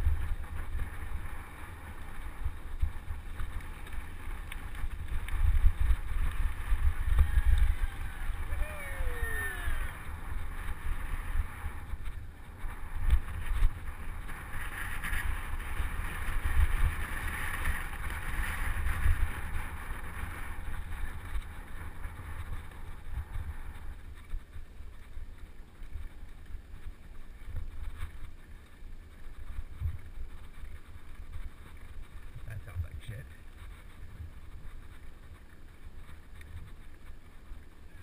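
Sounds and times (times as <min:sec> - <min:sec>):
mountain bike rumbling on rough track: 0:00.0 - 0:38.0
wind buffeting microphone: 0:00.0 - 0:38.0.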